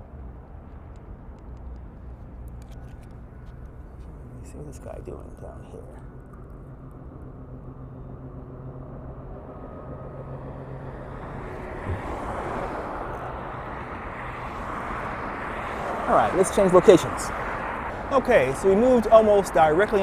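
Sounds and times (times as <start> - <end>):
approaching vehicle rush: 0.0 - 20.0
engine humming: 0.0 - 20.0.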